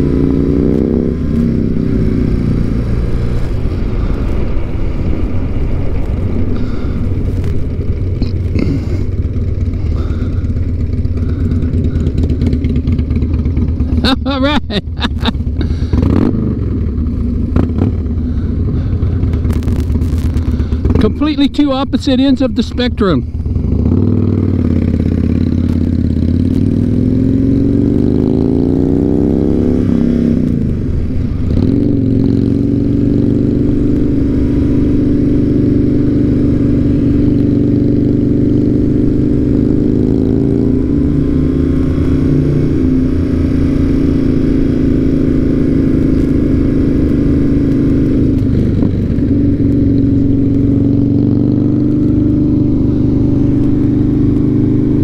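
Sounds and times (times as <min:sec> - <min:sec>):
motorcycle engine pulling away: 0:00.0 - 0:21.3, 0:23.4 - 0:55.0.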